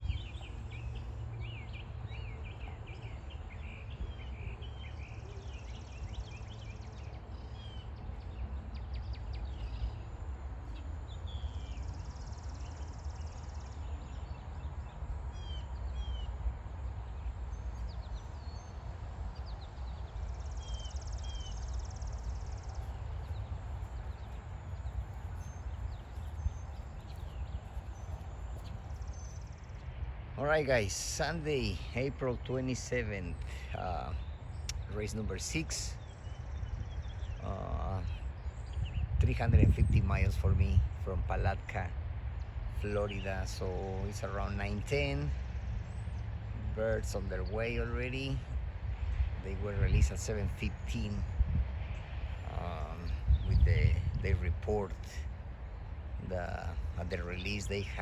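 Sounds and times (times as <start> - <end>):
small birds chirping: 0.0 - 58.0
steady low rumble: 0.0 - 58.0.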